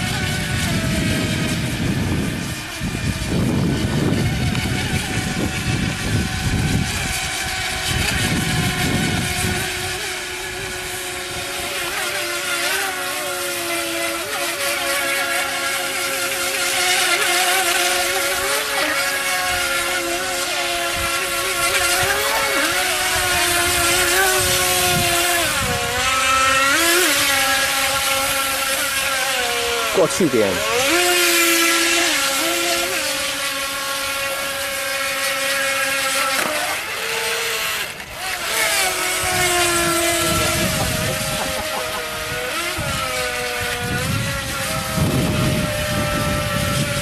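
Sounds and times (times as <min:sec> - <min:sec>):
electric motor and propeller whining: 0:00.0 - 0:47.0.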